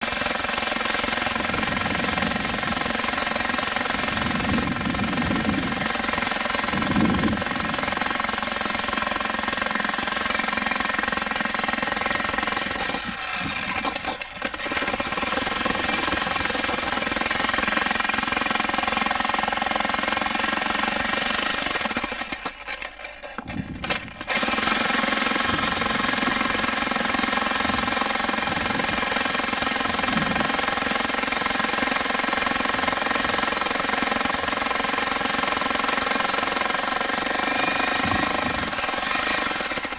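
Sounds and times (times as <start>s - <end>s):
jackhammer breaking rock: 0.0s - 39.9s.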